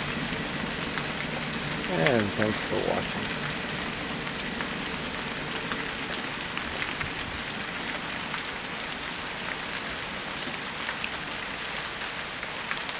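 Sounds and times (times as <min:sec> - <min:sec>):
raindrops ticking: 0:00.0 - 0:12.9
steady rain: 0:00.0 - 0:12.9.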